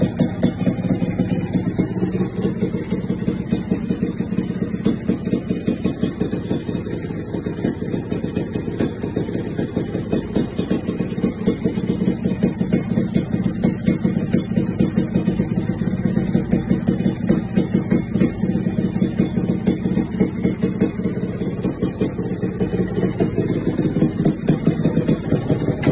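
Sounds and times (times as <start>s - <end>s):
two-stroke motorcycle engine running: 0.0s - 25.9s.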